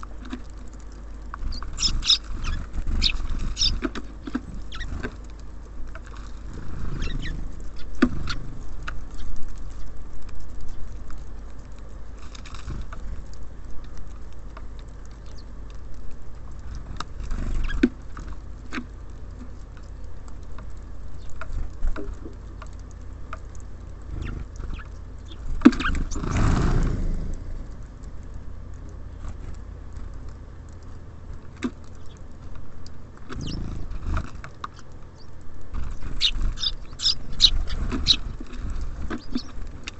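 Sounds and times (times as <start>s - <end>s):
steady low rumble: 0.0s - 17.7s, 18.4s - 39.9s
birds pecking and tapping: 0.0s - 39.9s.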